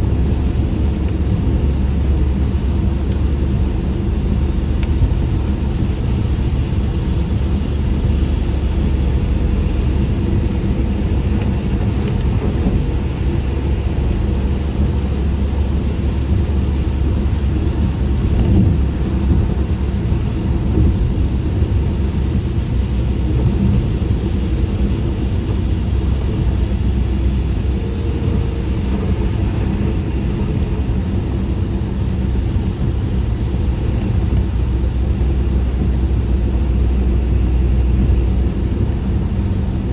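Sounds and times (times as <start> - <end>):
car driving on wet road: 0.0 - 39.9
rain on car: 0.0 - 39.9.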